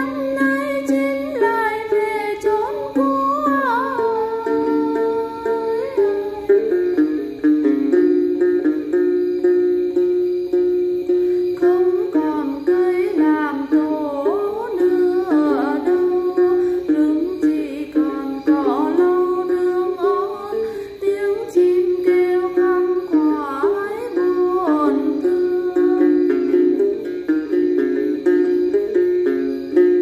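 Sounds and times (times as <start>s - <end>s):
plucked lute melody: 0.0s - 30.0s.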